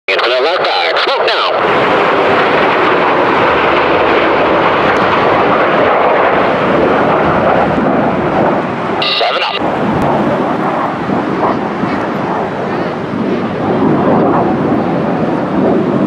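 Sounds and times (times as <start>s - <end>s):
jets flying past: 0.1s - 16.0s.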